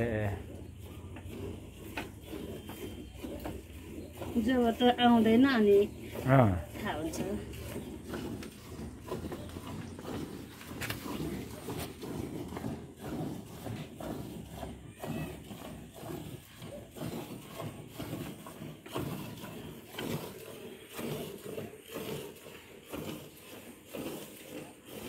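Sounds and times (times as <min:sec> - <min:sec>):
milk squirting into bucket: 0:00.0 - 0:25.0.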